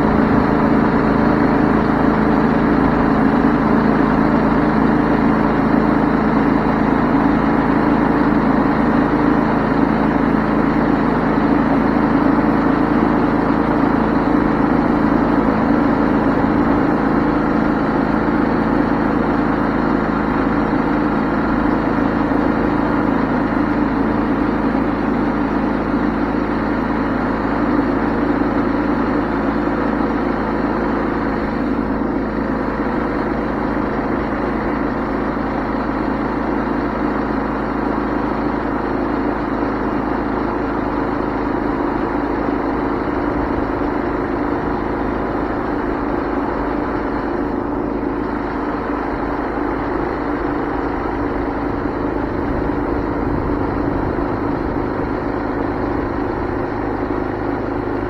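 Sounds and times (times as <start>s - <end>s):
band sawmill droning: 0.0s - 37.1s, 37.8s - 58.0s.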